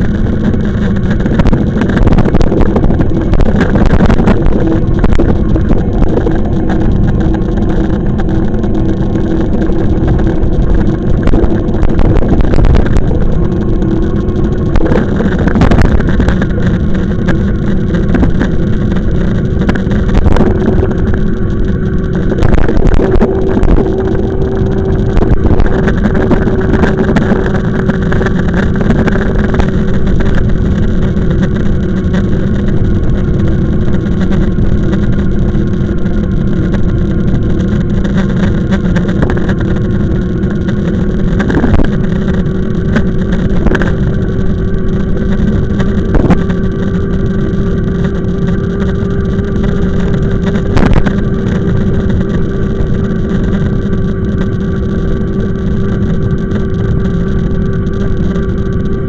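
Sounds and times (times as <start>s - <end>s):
electric motor hum: 0.0s - 59.0s
wind and road rumble: 0.0s - 59.0s.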